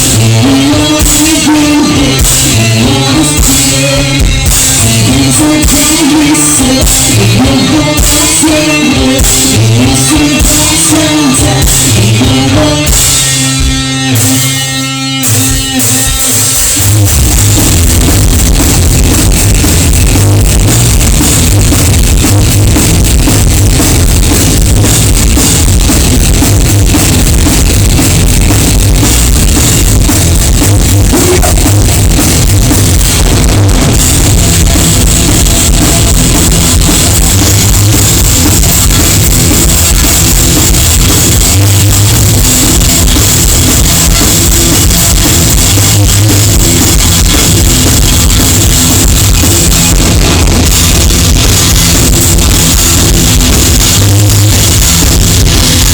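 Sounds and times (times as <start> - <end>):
distorted guitars and bass: 0.0 - 55.9
drum kit pounding: 0.0 - 55.9.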